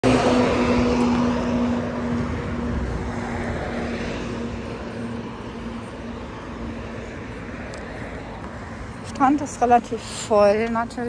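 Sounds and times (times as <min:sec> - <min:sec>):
truck engine passing: 0:00.0 - 0:09.8.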